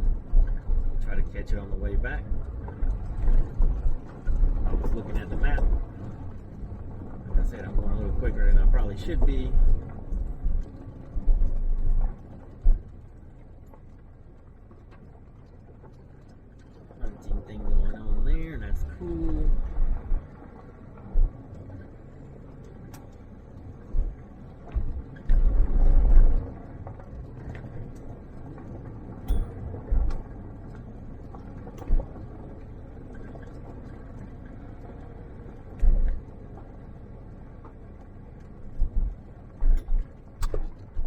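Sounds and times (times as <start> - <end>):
vehicle engine and road rumble: 0.0 - 41.0.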